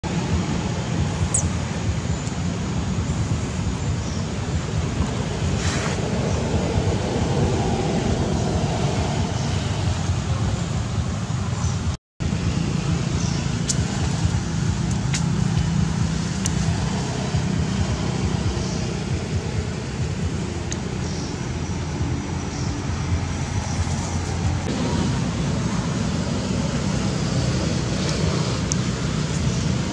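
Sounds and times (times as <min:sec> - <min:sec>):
low rumble with hiss: 0:00.1 - 0:29.9.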